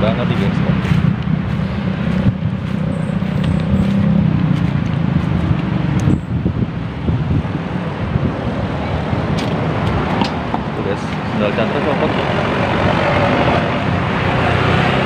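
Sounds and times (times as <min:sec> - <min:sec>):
vehicles passing close by: 0:00.0 - 0:15.0.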